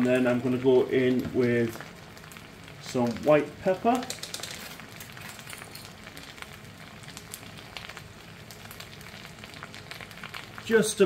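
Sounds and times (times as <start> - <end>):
potatoes sizzling in a pan: 0.0 - 11.0.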